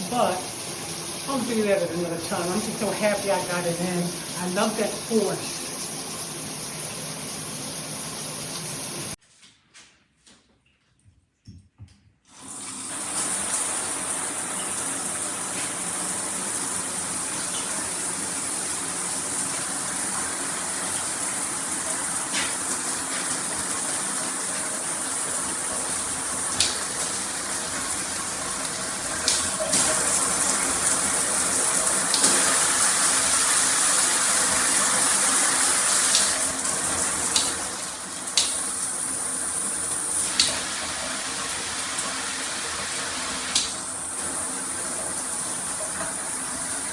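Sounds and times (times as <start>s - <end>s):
shower head spraying water: 0.0s - 9.2s, 12.4s - 44.6s.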